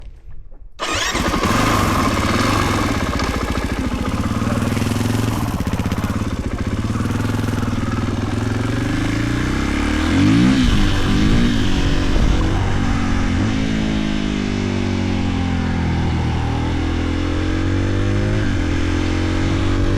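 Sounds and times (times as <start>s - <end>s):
motorcycle engine revving: 0.8s - 19.9s.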